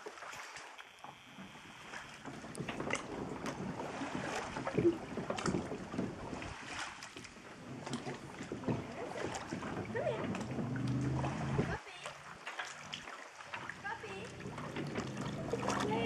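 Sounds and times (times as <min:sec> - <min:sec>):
pond water sloshing and lapping: 0:00.0 - 0:16.0
small splashes from wading: 0:00.0 - 0:16.0.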